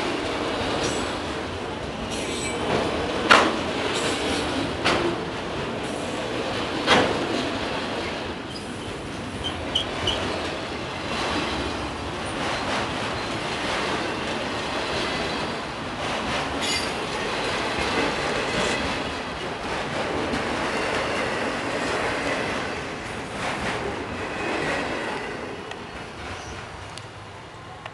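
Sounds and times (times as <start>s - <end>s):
train wheels on rail: 0.0s - 27.9s.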